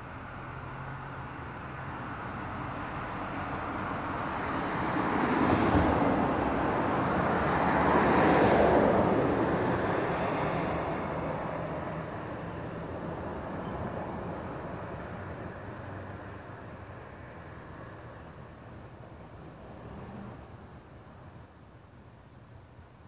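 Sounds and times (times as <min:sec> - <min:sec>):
passing traffic rushing: 0:00.0 - 0:23.0.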